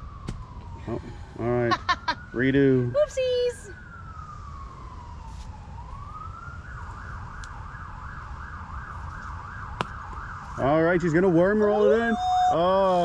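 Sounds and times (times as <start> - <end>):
emergency vehicle siren: 0.0 - 13.0
low wind rumble: 0.0 - 13.0.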